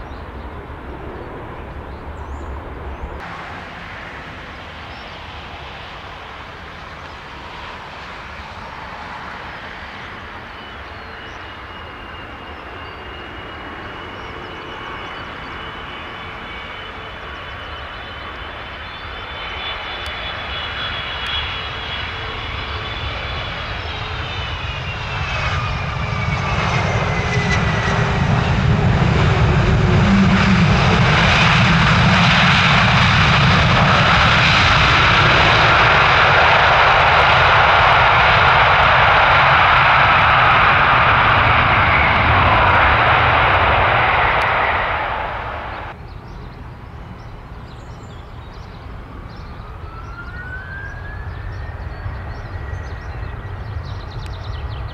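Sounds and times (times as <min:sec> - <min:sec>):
jet engine roar: 0:00.0 - 0:54.9
jet engine whine: 0:00.0 - 0:54.9.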